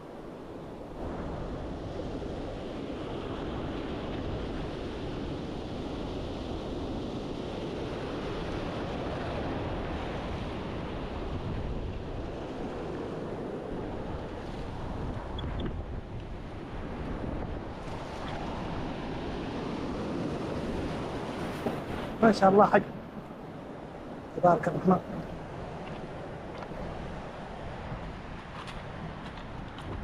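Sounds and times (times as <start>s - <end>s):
sea water: 0.0s - 30.0s
wind on microphone: 0.0s - 30.0s.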